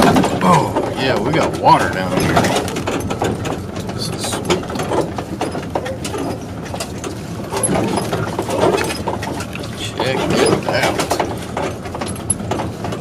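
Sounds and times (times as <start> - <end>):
van suspension creaking and squeaking: 0.0 - 13.0.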